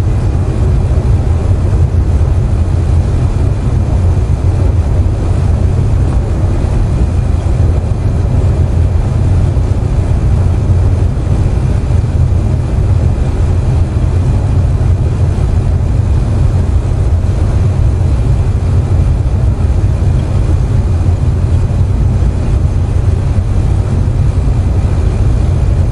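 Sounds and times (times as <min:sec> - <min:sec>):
air conditioner humming: 0:00.0 - 0:25.9.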